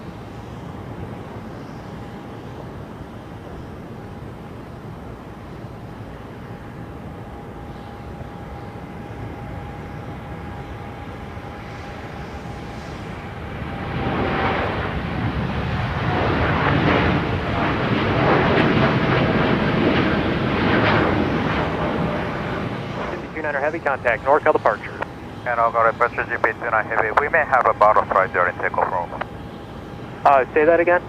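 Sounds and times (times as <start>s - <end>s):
jet engines at takeoff power: 0.0s - 31.0s
thin steady whine: 0.0s - 31.0s.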